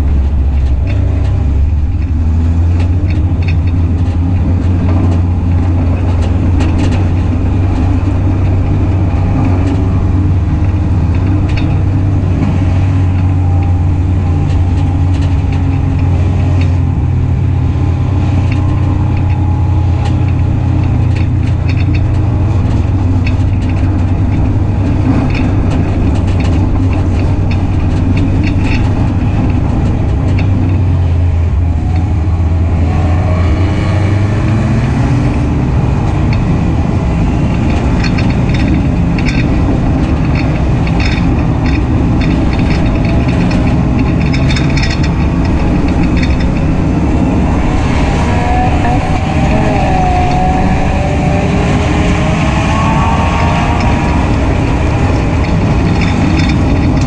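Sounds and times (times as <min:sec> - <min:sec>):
clicks and rattles: 0:00.0 - 0:33.1, 0:33.8 - 0:57.0
race car engine droning: 0:00.0 - 0:57.0.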